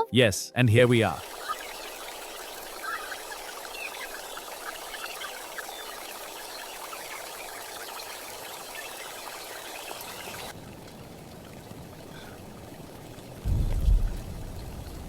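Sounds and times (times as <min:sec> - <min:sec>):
steady rain falling: 0:01.2 - 0:15.0.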